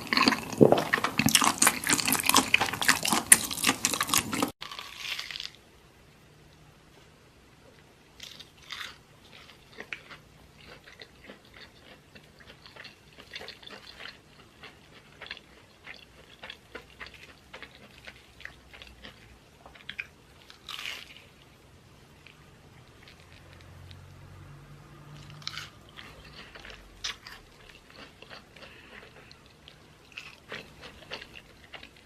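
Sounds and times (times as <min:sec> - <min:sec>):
person chewing food: 0:00.0 - 0:05.6, 0:08.2 - 0:24.2, 0:25.1 - 0:32.0.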